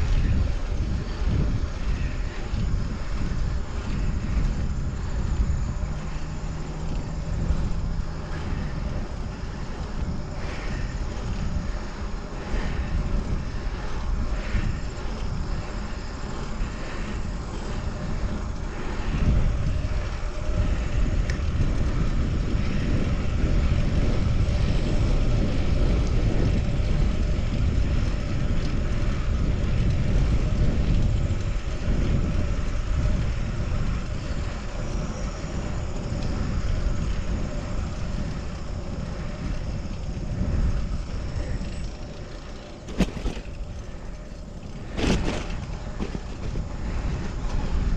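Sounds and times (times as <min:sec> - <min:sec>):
road and traffic noise: 0:00.0 - 0:47.9
wind on microphone: 0:00.0 - 0:47.9.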